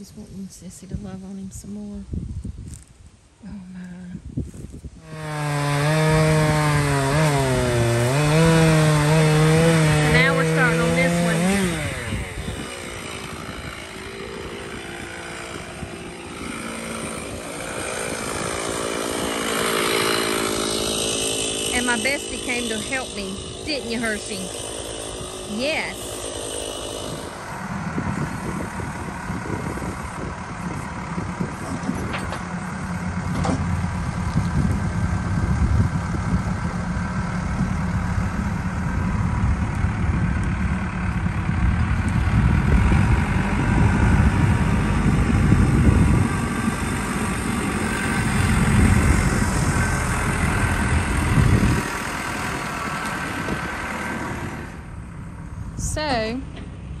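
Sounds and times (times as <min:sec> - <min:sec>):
backhoe diesel engine running: 0:03.6 - 0:57.0.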